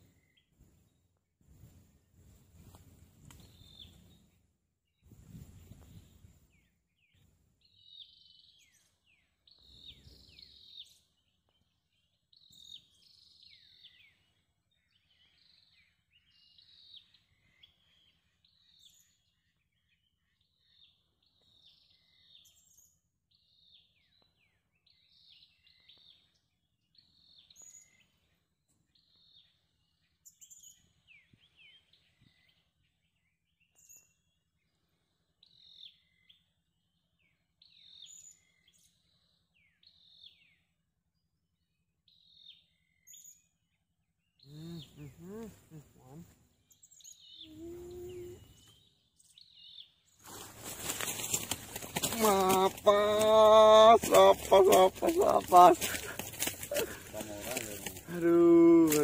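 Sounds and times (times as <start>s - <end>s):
faint birdsong whistles: 2.3s - 40.8s, 42.0s - 51.4s.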